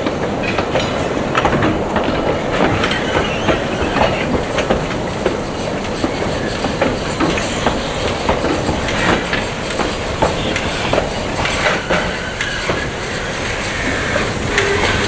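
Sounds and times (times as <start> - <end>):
train rumbling: 0.0 - 15.0
wheels clattering over rail joints: 0.0 - 15.0.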